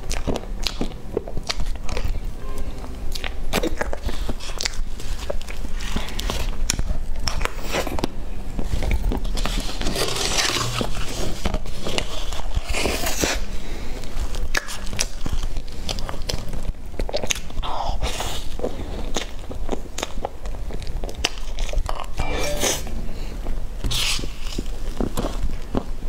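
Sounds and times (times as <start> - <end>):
chewing and wet mouth sounds: 0.0 - 2.3, 2.9 - 22.2.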